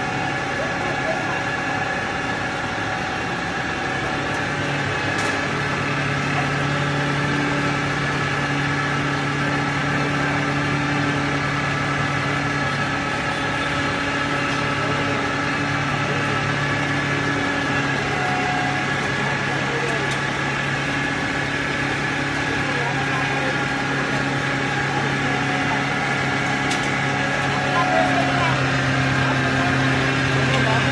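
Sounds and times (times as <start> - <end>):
pulverizer motor humming with whine: 0.0 - 30.9.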